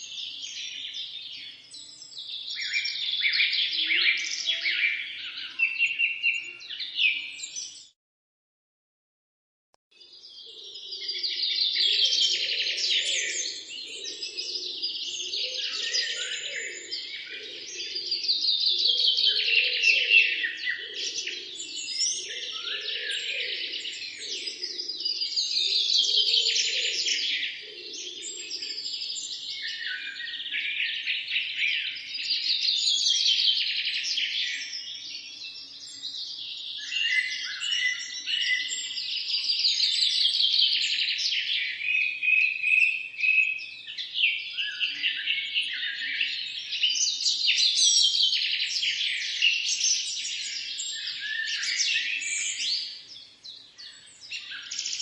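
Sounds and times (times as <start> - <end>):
songbirds chirping and trilling: 0.0 - 8.0, 10.0 - 55.0.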